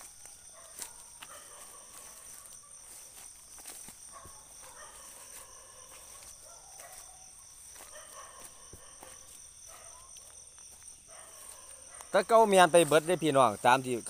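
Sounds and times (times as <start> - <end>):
crickets trilling: 0.0 - 14.0
faint insect calls: 0.0 - 14.0.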